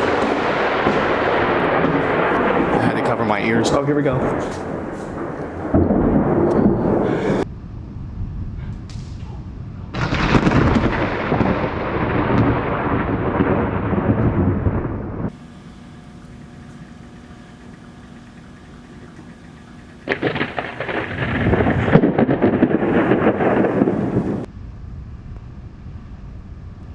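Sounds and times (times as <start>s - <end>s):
thunder clap and rumble: 0.0s - 24.5s.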